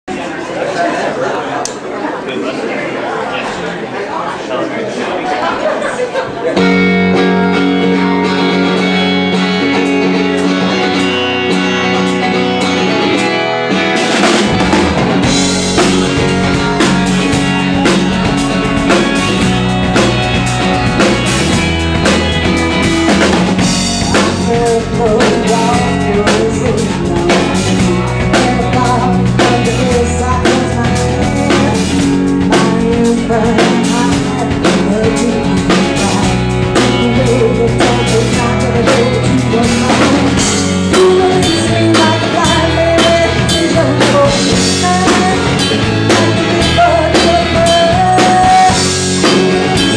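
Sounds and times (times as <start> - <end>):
live rock band playing: 6.2 - 49.9
drum kit beat: 6.6 - 49.9.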